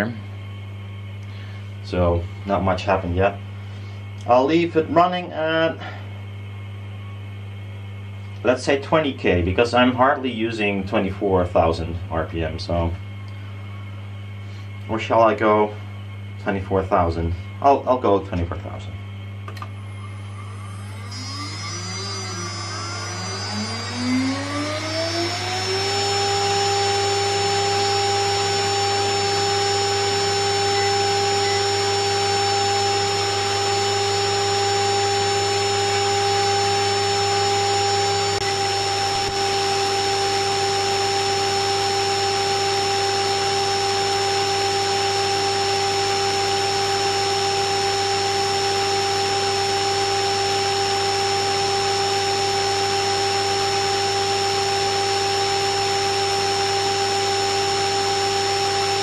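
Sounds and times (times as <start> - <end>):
low hum: 0.0 - 59.0
spindle motor whine: 0.0 - 59.0.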